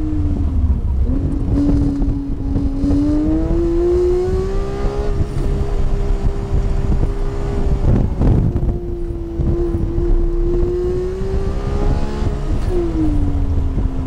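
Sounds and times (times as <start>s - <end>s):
car engine accelerating: 0.0s - 14.0s
tyre and road rumble: 0.0s - 14.0s.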